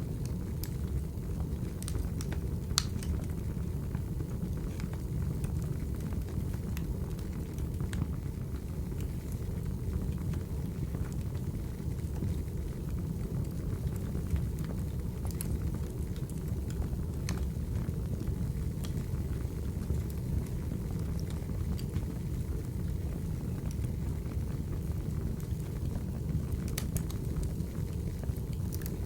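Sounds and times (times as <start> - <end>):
fire crackles and pops: 0.0 - 29.0
fire low rumble: 0.0 - 29.0.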